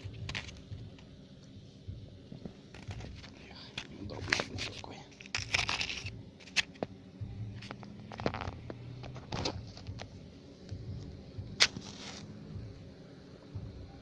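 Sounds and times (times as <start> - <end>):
bee colony humming: 0.0 - 14.0.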